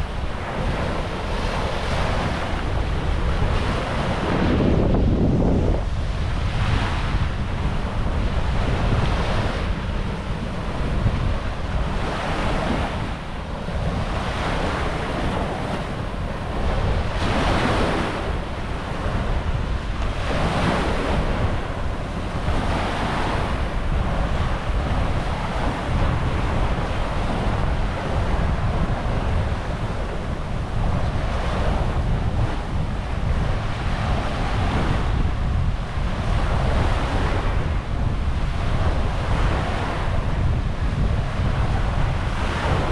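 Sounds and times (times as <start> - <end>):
small waves breaking on beach: 0.0 - 42.9
wind rumble on microphone: 0.0 - 42.9.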